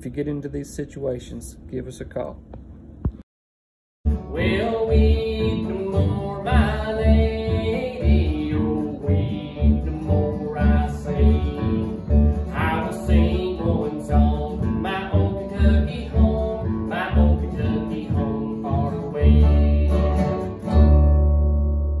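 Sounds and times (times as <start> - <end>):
acoustic guitar strumming: 4.1 - 22.0
upright bass plucking: 4.1 - 22.0.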